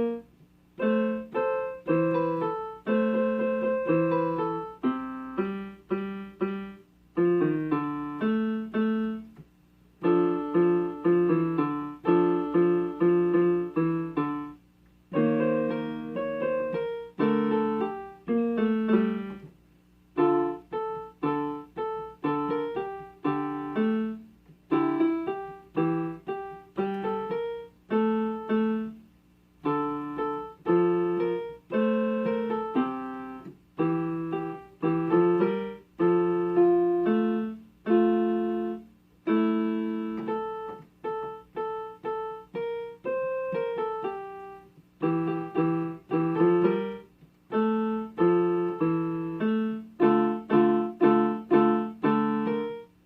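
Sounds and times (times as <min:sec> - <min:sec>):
piano playing chords and melody: 0:00.0 - 0:09.3, 0:10.0 - 0:19.5, 0:20.2 - 0:29.0, 0:29.6 - 0:53.0.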